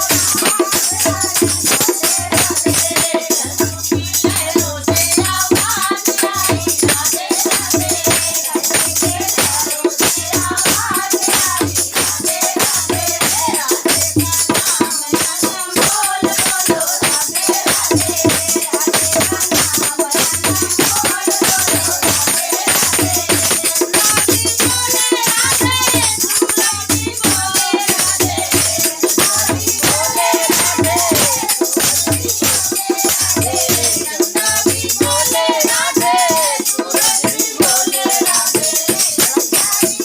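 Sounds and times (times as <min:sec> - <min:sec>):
rattling percussion: 0:00.0 - 0:40.0.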